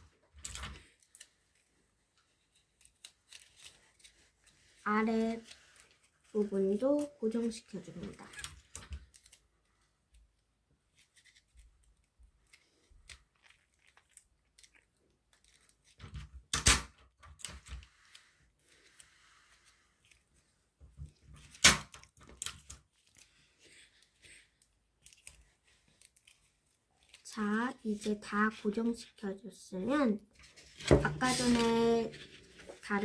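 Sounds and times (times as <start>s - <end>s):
paper and tape rustling: 0.3s - 9.6s, 10.9s - 16.6s, 17.4s - 29.1s, 30.3s - 33.0s.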